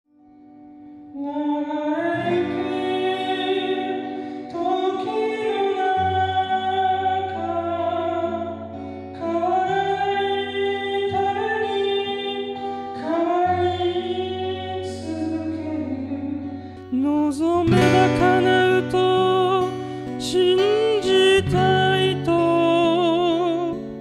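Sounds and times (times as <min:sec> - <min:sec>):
acoustic guitar: 0:00.1 - 0:24.0
man singing in a high voice: 0:01.2 - 0:24.0.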